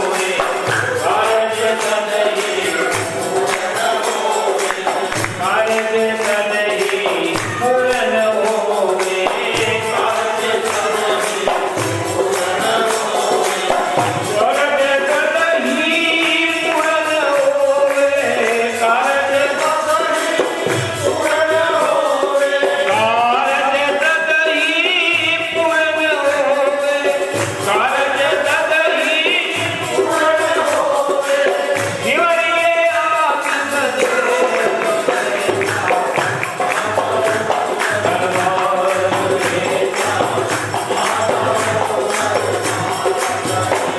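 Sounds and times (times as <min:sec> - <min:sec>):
jingling hand percussion: 0:00.0 - 0:43.9
melodic devotional singing: 0:00.0 - 0:43.9.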